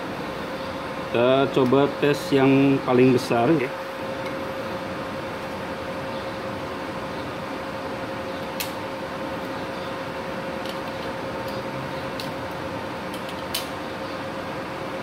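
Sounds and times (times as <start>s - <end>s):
welder cooling fans humming: 0.0s - 15.0s.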